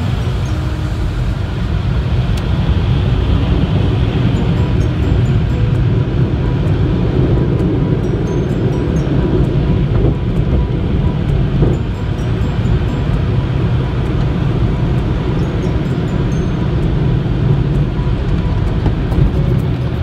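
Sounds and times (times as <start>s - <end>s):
car wash machinery rumbling: 0.0s - 20.0s.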